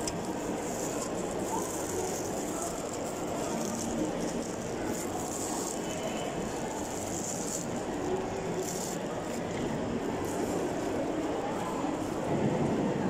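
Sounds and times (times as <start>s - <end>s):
plastic gloves crinkling: 0.0s - 12.2s
food court crowd murmur: 0.0s - 13.0s.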